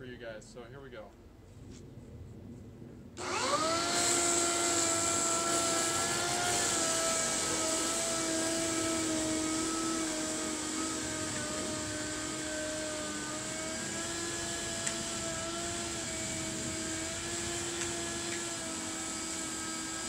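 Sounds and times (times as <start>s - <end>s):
electric dethatcher motor whine: 3.2s - 20.0s.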